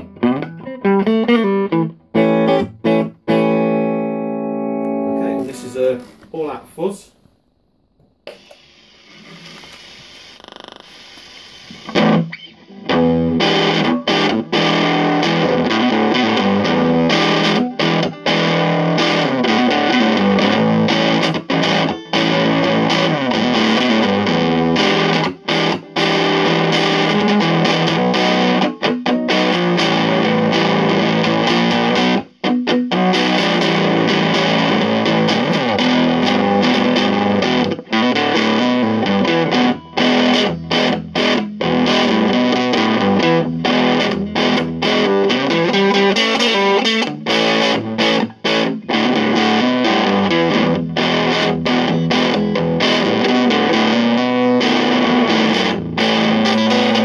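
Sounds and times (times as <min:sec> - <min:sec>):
distorted fuzz electric guitar: 0:00.0 - 0:05.8, 0:08.5 - 0:57.0.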